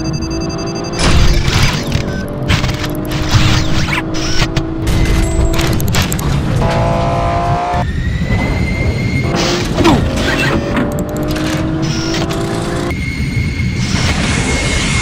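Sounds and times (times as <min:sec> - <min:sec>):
mechanical whirring and clanking: 0:00.8 - 0:07.1, 0:07.7 - 0:15.0.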